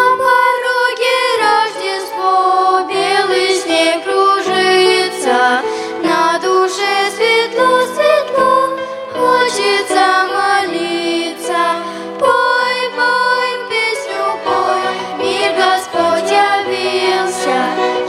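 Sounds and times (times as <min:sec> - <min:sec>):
children's violins: 0:00.0 - 0:18.0
ensemble singing: 0:00.4 - 0:18.0.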